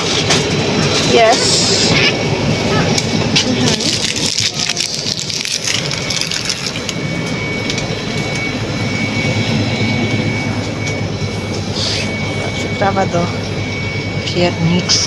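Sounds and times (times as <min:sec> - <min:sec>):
faint high whine: 0:00.6 - 0:15.0.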